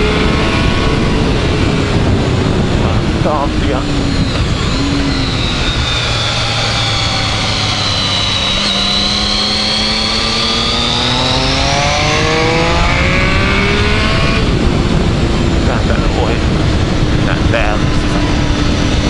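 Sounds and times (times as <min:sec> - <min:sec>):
motorcycle engine accelerating: 0:00.0 - 0:19.0
wind rush: 0:00.0 - 0:19.0.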